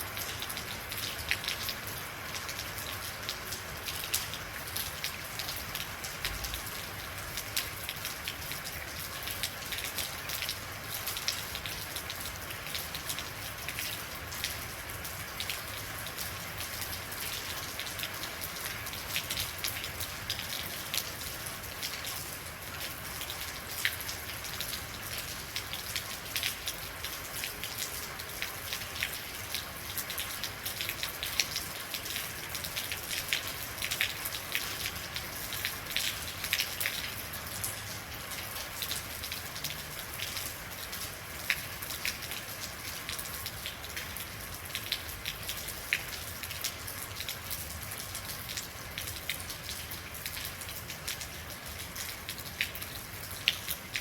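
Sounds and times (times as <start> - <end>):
rain falling steadily: 0.0 - 54.0
raindrops ticking on hard surface: 0.2 - 54.0.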